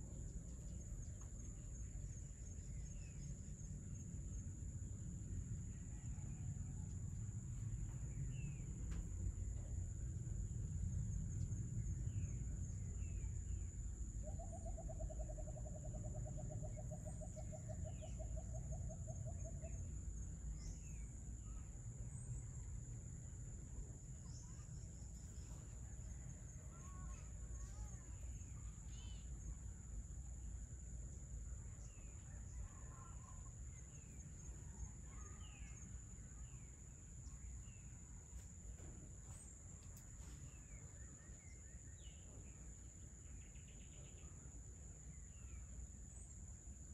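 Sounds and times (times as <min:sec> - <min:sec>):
low background rumble: 0:00.0 - 0:46.9.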